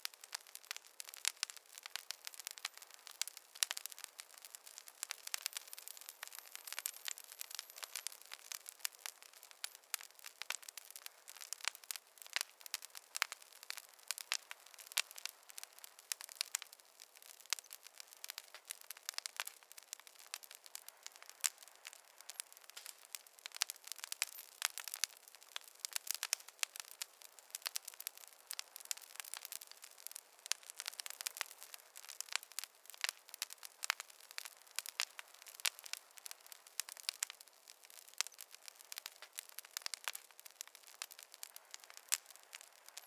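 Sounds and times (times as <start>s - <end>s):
campfire crackling and popping: 0.0s - 43.0s
soft fire hiss: 0.0s - 43.0s.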